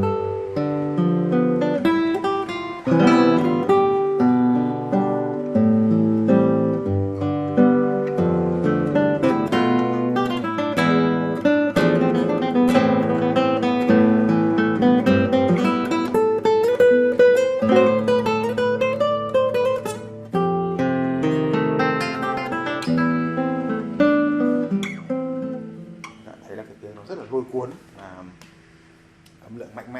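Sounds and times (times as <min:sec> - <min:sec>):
classical guitar playing: 0:00.0 - 0:29.4.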